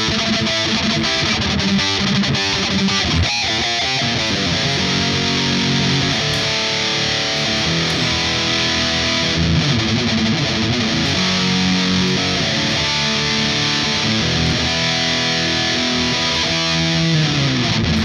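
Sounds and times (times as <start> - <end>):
distorted electric guitar: 0.0 - 18.0.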